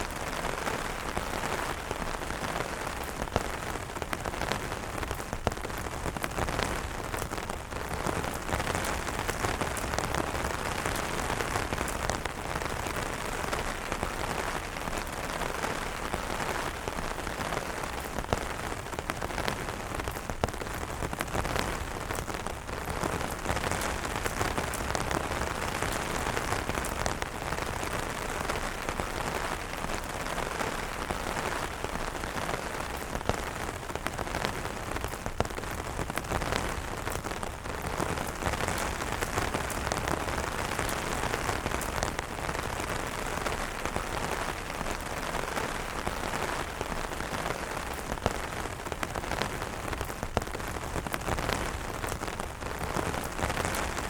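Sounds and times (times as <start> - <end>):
rain on umbrellas: 0.0 - 54.0.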